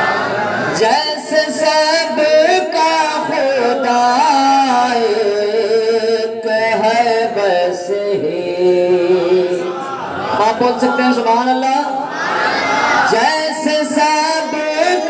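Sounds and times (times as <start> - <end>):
man singing unaccompanied: 0.8 - 12.0, 13.1 - 15.0.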